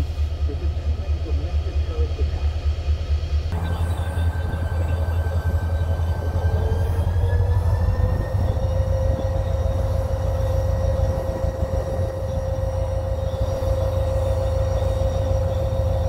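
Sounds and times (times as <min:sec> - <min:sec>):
diesel freight train rumble: 0:00.0 - 0:16.0
train whine: 0:00.0 - 0:16.0.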